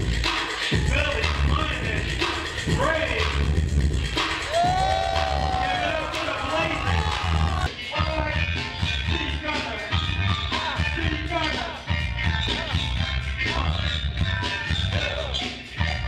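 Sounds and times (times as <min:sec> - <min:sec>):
music with heavy bass beat: 0:00.0 - 0:16.0.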